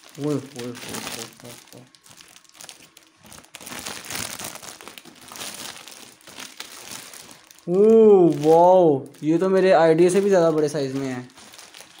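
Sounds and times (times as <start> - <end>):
foil balloon crinkling: 0.0 - 12.0.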